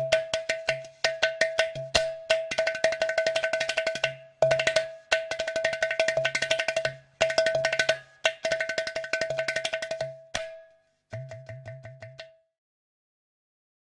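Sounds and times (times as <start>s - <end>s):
fast percussion: 0.0s - 12.4s.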